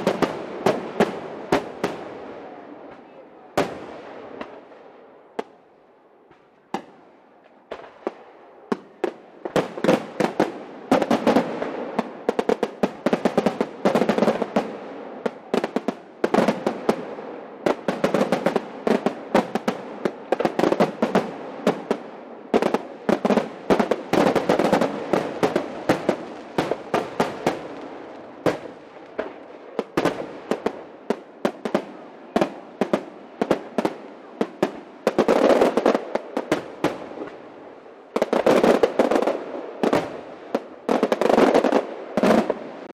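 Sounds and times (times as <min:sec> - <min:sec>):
fireworks bursting: 0:00.0 - 0:05.7, 0:06.3 - 0:42.9
fireworks crackling: 0:00.0 - 0:05.7, 0:06.3 - 0:42.9.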